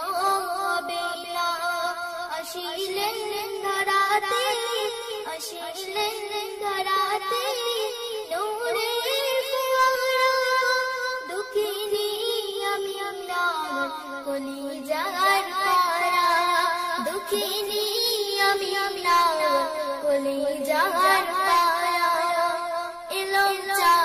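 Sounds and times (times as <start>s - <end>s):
high voice singing: 2.3s - 24.0s.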